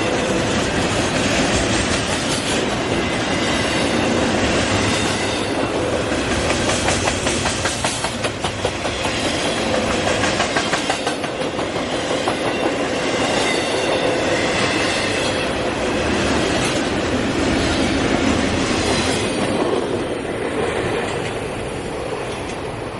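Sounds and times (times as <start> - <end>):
train wheels clicking over rail joints: 0.1 - 15.3, 16.2 - 22.9.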